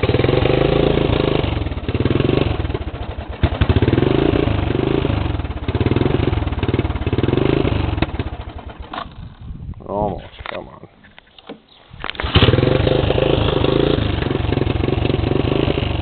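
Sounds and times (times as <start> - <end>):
single-cylinder engine revving: 0.0 - 9.2, 12.0 - 16.0.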